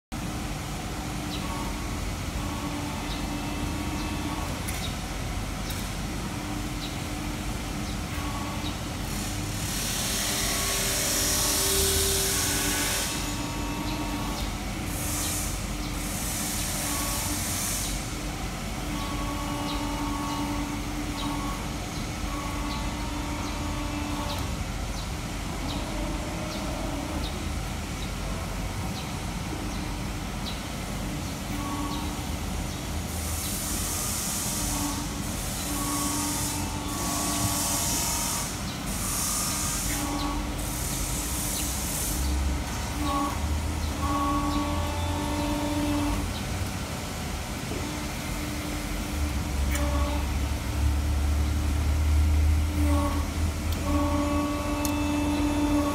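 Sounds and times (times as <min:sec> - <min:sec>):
factory machinery noise: 0:00.1 - 0:55.9
faint hum: 0:00.2 - 0:55.9.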